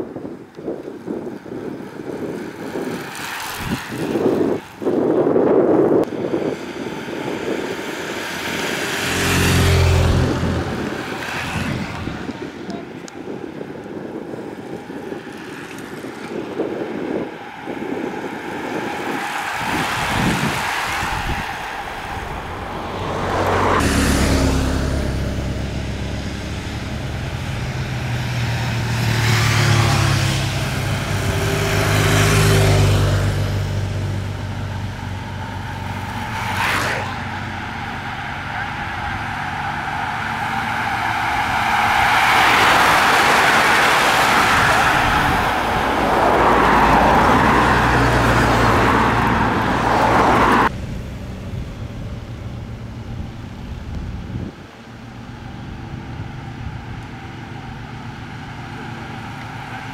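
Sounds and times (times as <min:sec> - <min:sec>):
rush of bicycle tyres and air: 0:00.0 - 0:59.9
vehicles driving past: 0:00.0 - 0:59.9.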